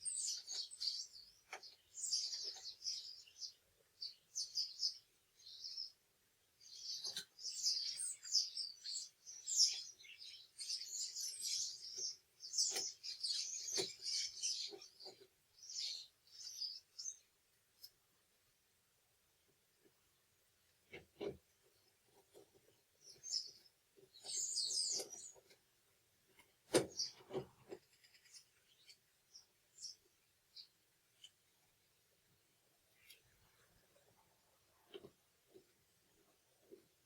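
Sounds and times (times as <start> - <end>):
small bird chirping: 0.0 - 18.0, 20.8 - 37.0.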